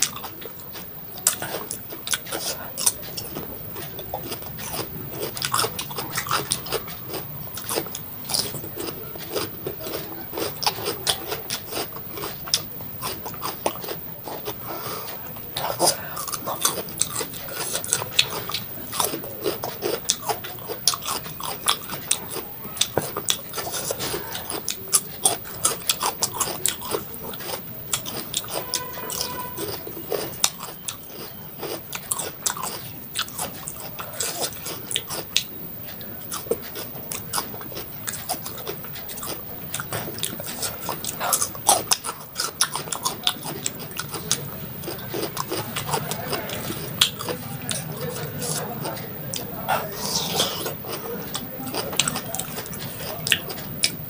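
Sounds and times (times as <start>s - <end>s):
crunchy chewing of vegetables: 0.0s - 54.0s.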